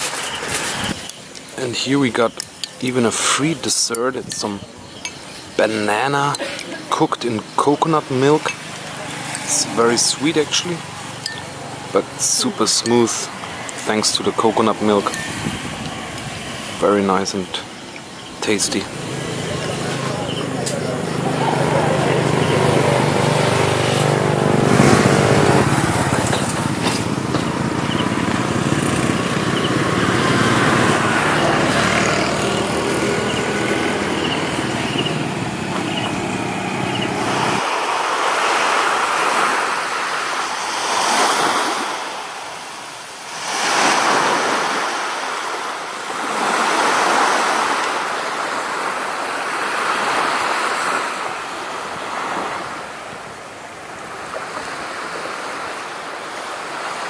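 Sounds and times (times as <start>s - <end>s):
street noise: 0.0s - 57.0s
waves breaking on beach: 0.0s - 57.0s.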